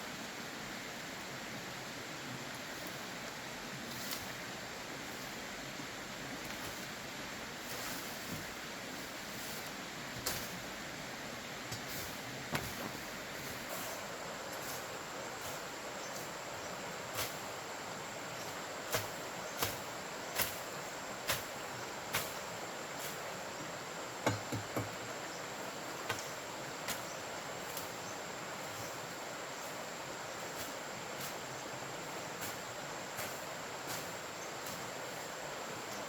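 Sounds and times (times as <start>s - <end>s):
high insect drone: 2.8s - 36.0s.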